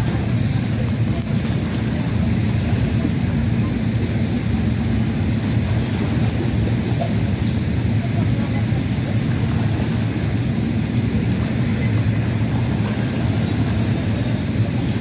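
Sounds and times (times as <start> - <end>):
choppy water: 0.0 - 15.0
wind buffeting microphone: 0.0 - 15.0.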